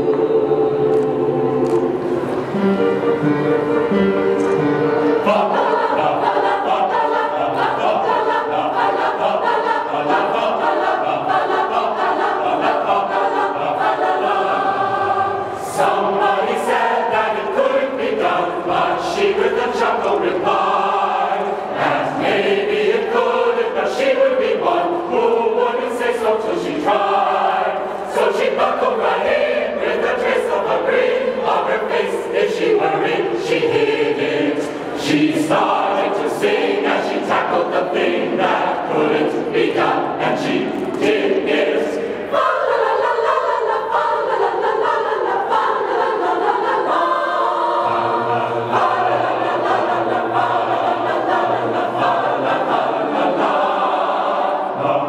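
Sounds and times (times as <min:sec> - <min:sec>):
group of people singing: 0:00.0 - 0:55.0.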